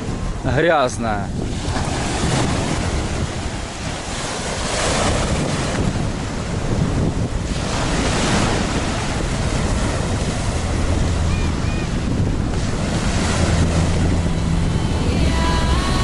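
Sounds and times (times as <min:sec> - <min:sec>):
wind buffeting microphone: 0:00.0 - 0:16.0
waves breaking on shore: 0:01.4 - 0:16.0.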